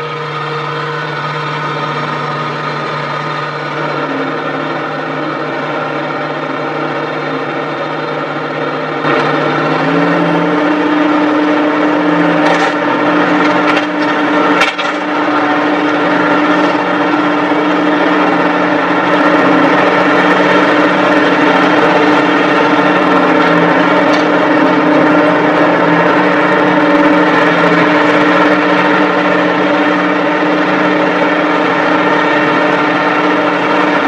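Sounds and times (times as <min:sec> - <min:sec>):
diesel engines running: 0:00.0 - 0:34.0.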